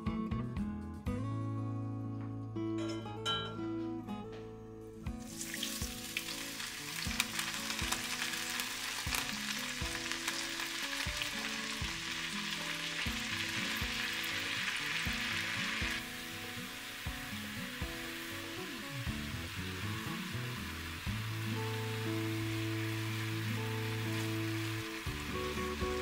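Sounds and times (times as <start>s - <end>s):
wine sizzling in hot skillet: 5.1s - 26.0s.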